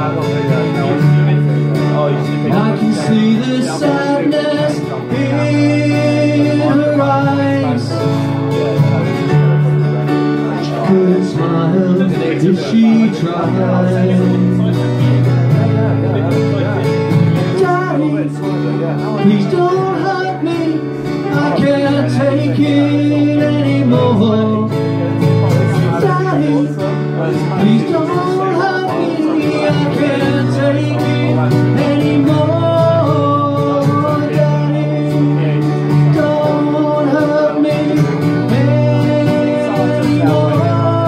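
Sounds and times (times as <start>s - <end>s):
acoustic guitar: 0.0s - 41.0s
man singing: 0.0s - 41.0s.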